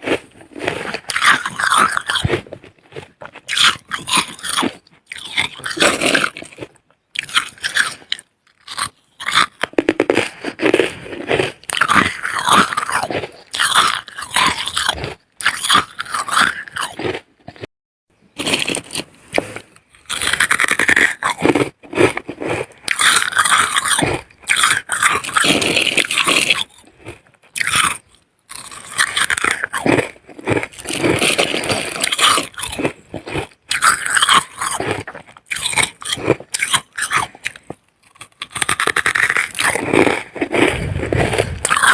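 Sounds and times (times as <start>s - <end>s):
frost being chewed with crunching: 0.0s - 17.7s, 18.3s - 41.9s.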